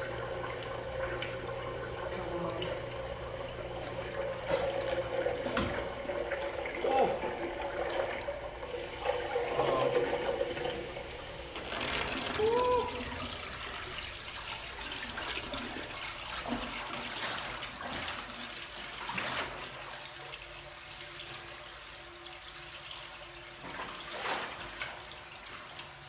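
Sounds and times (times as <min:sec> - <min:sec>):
toilet flushing and swirling: 0:00.0 - 0:26.0.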